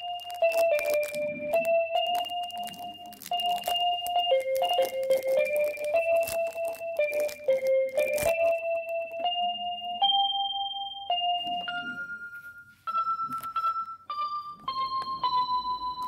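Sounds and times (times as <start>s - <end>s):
keyboard melody: 0.0s - 16.0s.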